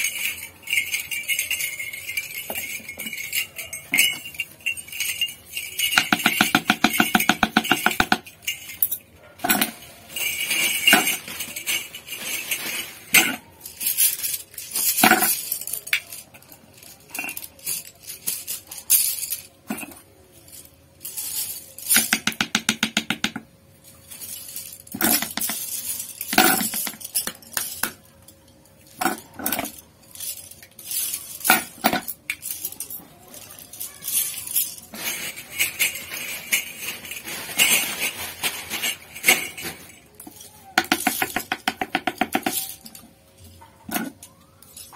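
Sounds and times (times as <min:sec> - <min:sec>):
metal ferrules clinking and rattling: 0:00.0 - 0:44.9.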